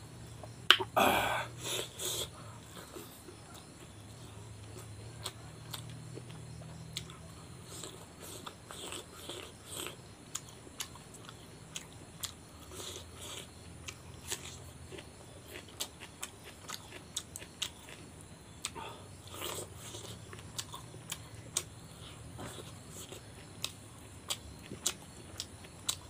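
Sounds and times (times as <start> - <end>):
low steady hum: 0.0 - 26.0
person chewing food: 0.3 - 26.0.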